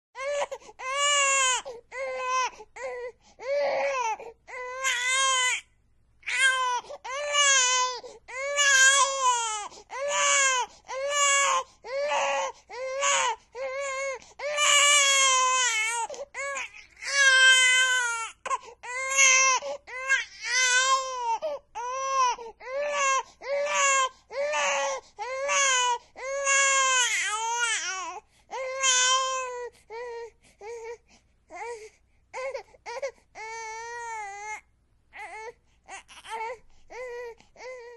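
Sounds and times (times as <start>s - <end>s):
infant crying: 0.2s - 5.6s, 6.2s - 37.9s.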